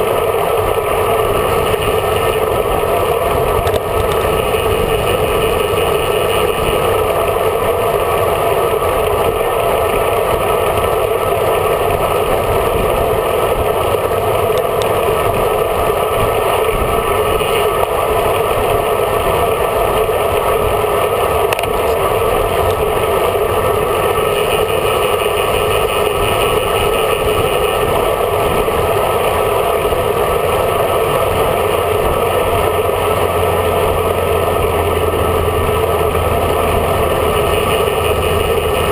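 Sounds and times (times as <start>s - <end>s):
wind and road rush: 0.0s - 38.9s.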